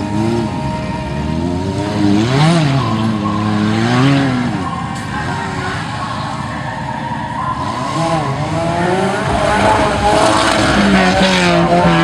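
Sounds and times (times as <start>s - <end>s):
offroad vehicle engine revving: 0.0s - 12.0s.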